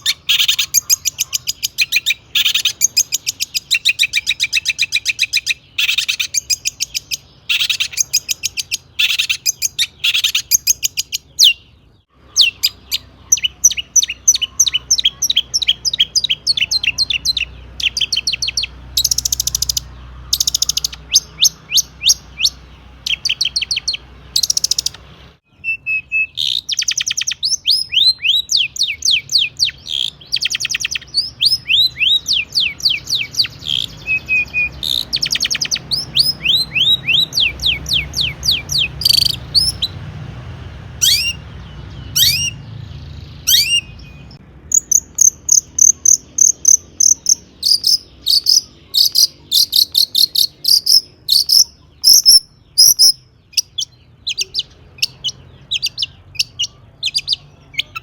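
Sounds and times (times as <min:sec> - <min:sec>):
shrike singing rapid sharp notes: 0:00.0 - 0:40.2, 0:43.4 - 0:58.0.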